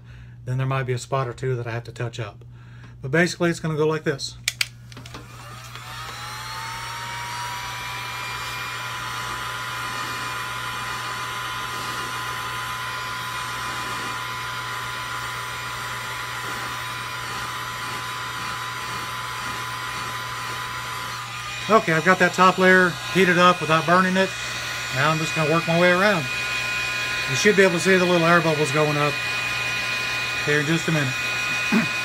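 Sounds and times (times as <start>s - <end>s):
heat gun motor whine: 4.5s - 32.0s.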